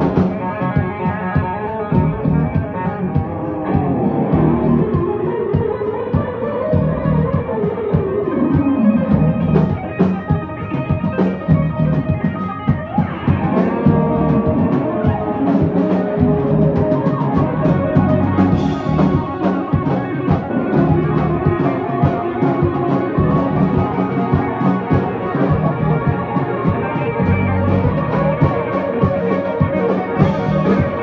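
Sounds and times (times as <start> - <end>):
guitar note sliding down: 0.0 - 5.6, 6.4 - 31.0
electric guitars jamming: 0.0 - 31.0.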